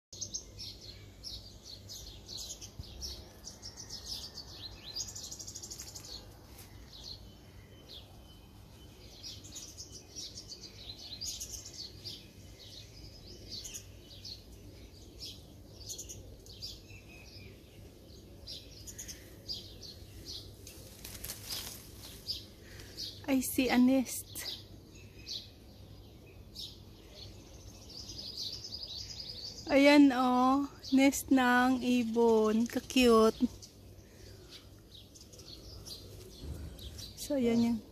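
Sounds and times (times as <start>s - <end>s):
small birds chirping: 0.1s - 37.9s.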